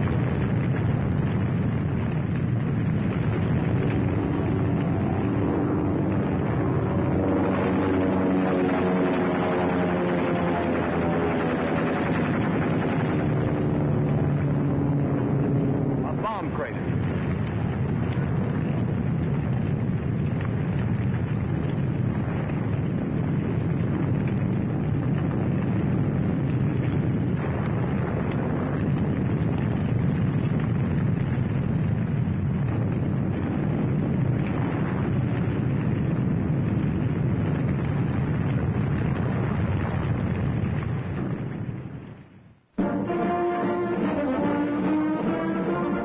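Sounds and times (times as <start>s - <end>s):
explosions: 0.0s - 46.0s.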